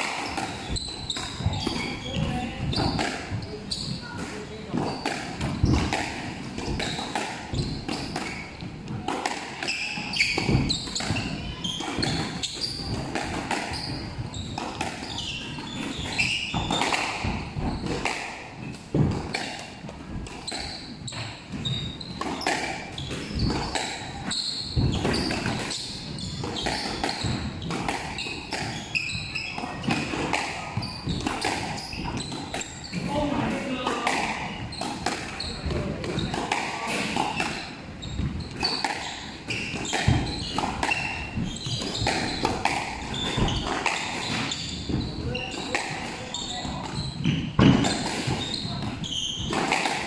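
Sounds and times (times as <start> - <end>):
shoes squeaking on wooden floor: 0.0 - 50.0
squash ball hitting rackets and walls: 0.0 - 50.0.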